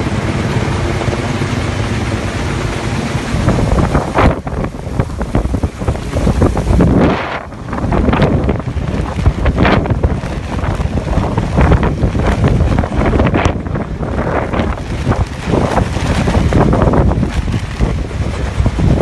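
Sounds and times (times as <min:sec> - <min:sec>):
helicopter rotor noise: 0:00.0 - 0:19.0
wind gusting over microphone: 0:00.0 - 0:19.0.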